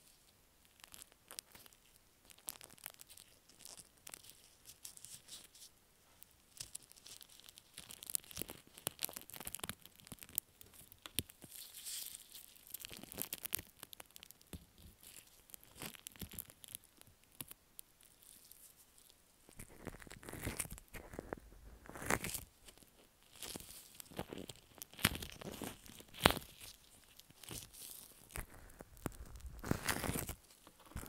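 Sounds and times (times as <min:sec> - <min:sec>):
slime squishing crackles: 0:00.0 - 0:31.0.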